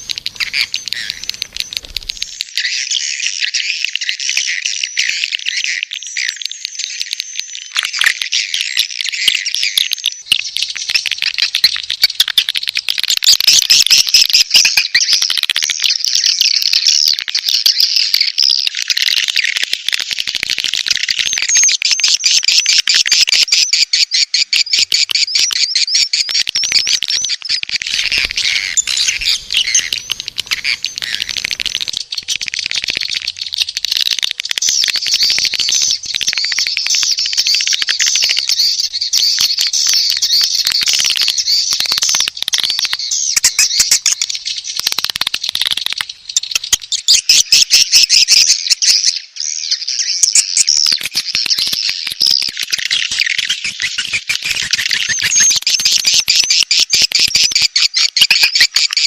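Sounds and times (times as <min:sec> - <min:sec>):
birds chirping and trilling: 0:00.0 - 0:19.1, 0:20.7 - 0:59.0.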